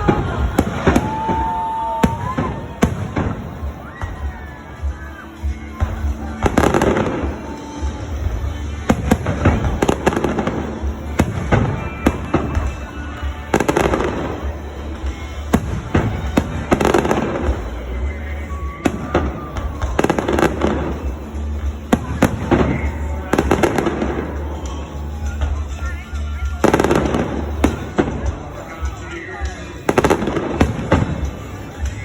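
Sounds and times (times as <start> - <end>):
fireworks bangs with echo: 0.0 - 32.0
fireworks crackling: 0.0 - 32.0.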